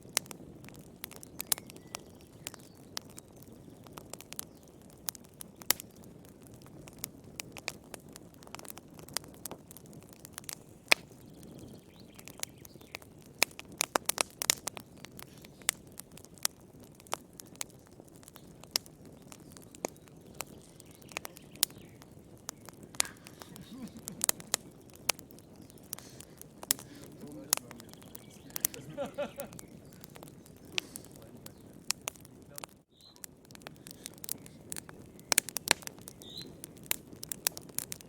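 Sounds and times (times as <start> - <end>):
fire crackling in a fireplace: 0.0 - 38.0.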